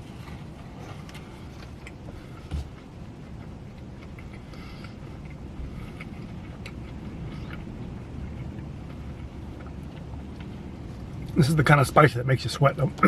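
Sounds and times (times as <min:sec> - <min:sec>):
person chewing crispy food: 0:00.0 - 0:11.4
steady low rumble: 0:00.0 - 0:13.0.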